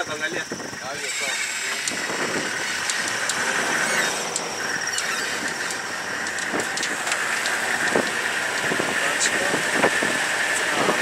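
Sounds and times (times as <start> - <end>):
vehicle body rattling: 0.0 - 11.0
vehicle road noise: 0.0 - 11.0.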